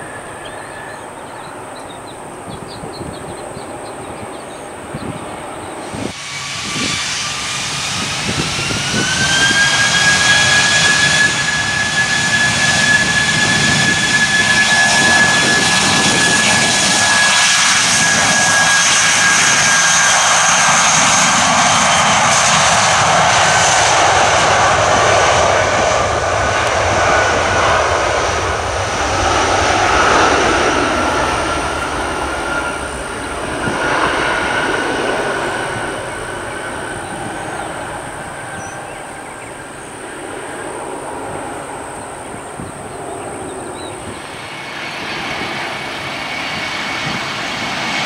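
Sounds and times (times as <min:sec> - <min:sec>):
jet engines at takeoff: 0:00.0 - 0:48.0.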